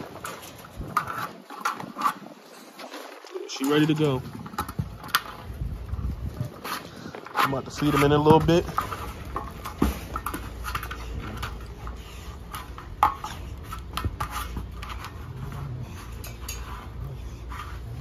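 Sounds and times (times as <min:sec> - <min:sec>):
dogs pushing a ball over dirt: 0:00.0 - 0:18.0.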